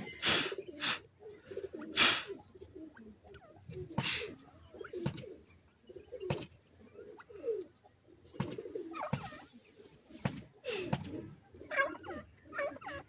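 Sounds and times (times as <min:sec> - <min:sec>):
game bird cooing: 0:00.0 - 0:13.0.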